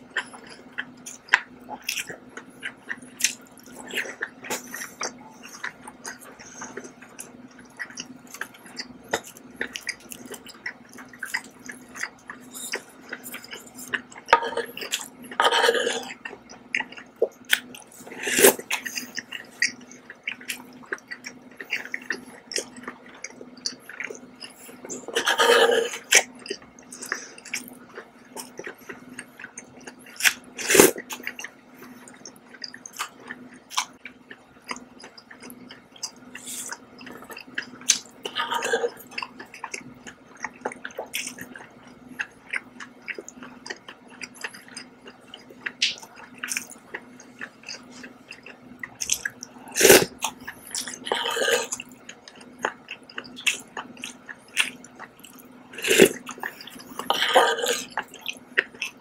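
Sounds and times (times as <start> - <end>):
close chewing: 0.0 - 59.0
faint steady hum: 0.0 - 59.0.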